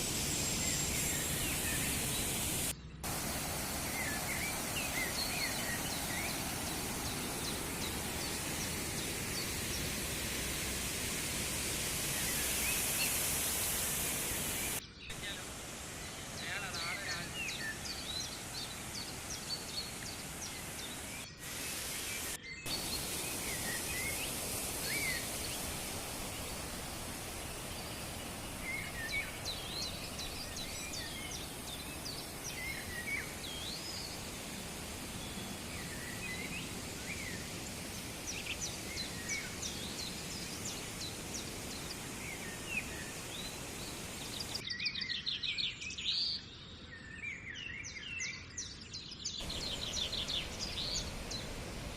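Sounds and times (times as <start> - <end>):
waterfall rushing: 0.0 - 44.6, 49.4 - 51.9
small birds chirping and trilling: 0.0 - 51.9.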